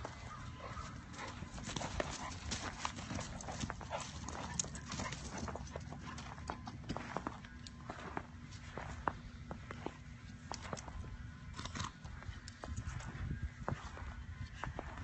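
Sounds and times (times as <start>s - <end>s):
steps crunching in snow: 0.0s - 11.2s, 12.1s - 15.0s.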